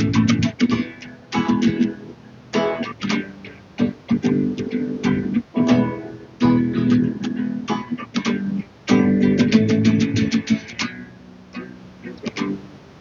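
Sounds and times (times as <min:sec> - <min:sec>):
song with strummed guitar: 0:00.0 - 0:13.0.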